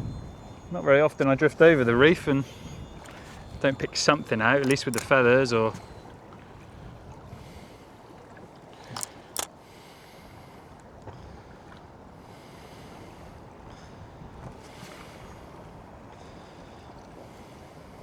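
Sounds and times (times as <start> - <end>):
sea water washing: 0.0 - 18.0
wind: 0.0 - 18.0.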